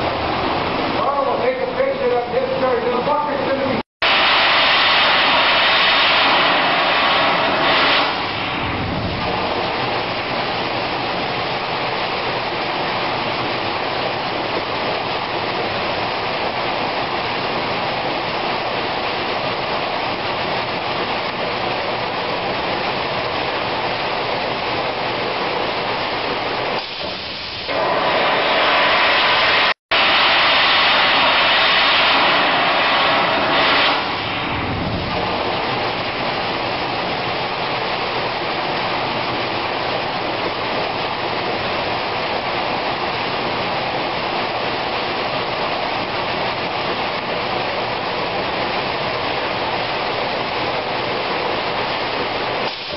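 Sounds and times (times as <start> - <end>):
industrial vacuum rushing: 0.0 - 52.9.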